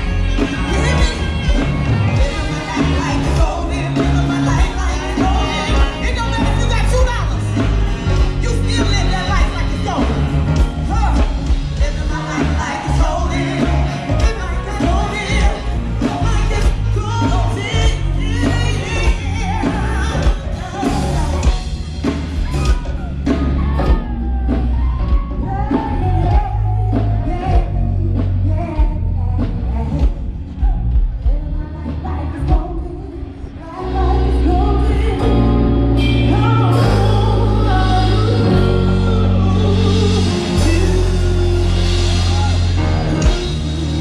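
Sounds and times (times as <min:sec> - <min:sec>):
drum beats: 0:00.0 - 0:32.9, 0:34.2 - 0:44.0
bass line: 0:00.0 - 0:44.0
lead singer: 0:00.0 - 0:44.0
soul band playing live: 0:00.0 - 0:44.0.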